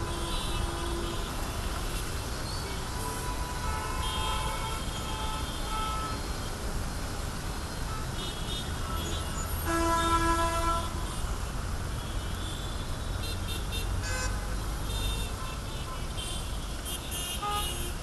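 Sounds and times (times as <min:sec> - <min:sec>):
car horn: 0:00.0 - 0:01.7, 0:02.6 - 0:06.2, 0:07.9 - 0:11.2, 0:12.0 - 0:18.0.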